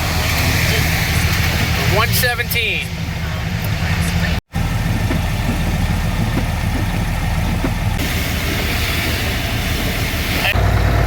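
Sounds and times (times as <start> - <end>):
road and rain hiss: 0.0 - 11.0
truck diesel engine running: 0.0 - 11.0.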